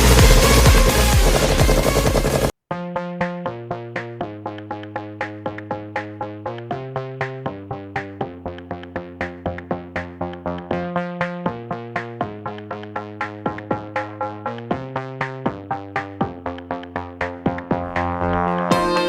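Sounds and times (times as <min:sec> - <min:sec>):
quick electronic beat: 0:00.0 - 0:02.5, 0:03.2 - 0:19.0
held synthesizer chords: 0:00.0 - 0:19.0.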